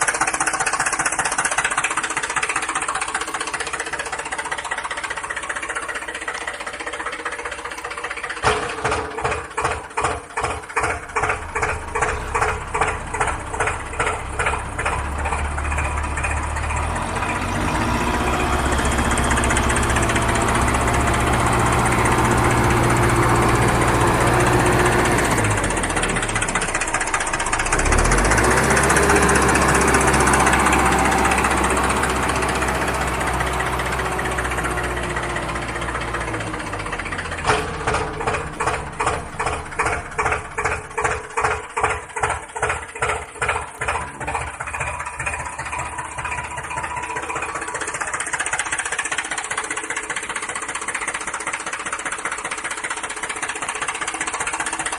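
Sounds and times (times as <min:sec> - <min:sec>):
engine running and chugging: 0:00.0 - 0:54.9.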